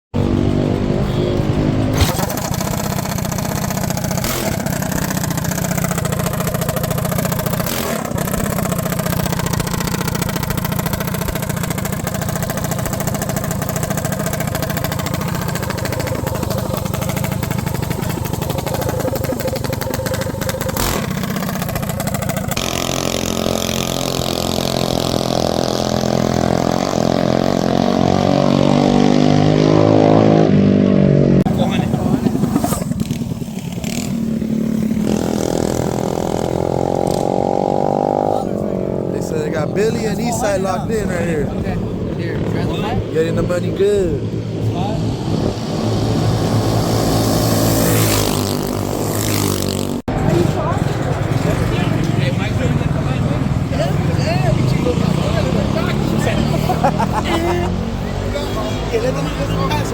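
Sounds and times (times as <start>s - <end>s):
minibike engine running: 0.1s - 28.8s, 31.5s - 59.9s.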